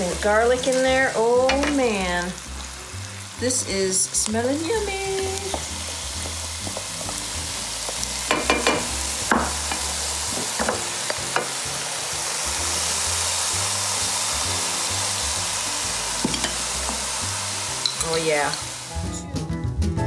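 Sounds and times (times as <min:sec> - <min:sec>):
oil sizzling in a pan: 0:00.0 - 0:19.4.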